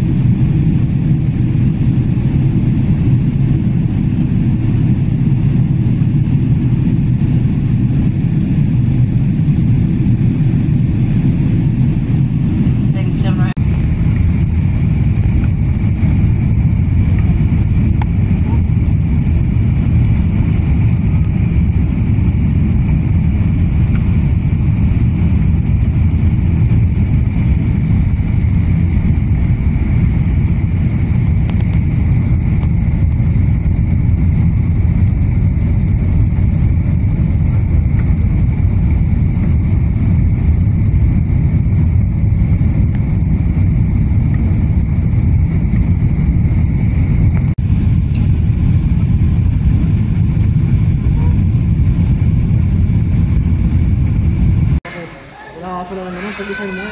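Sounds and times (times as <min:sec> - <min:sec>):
jet airliner cabin rumble: 0:00.0 - 0:55.1.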